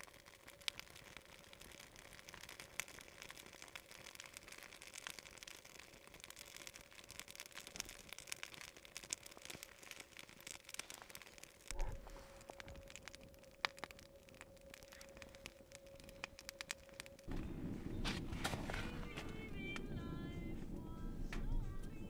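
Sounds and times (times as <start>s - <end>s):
soft hiss of flame: 0.0s - 22.0s
wood fire crackling: 0.0s - 22.0s.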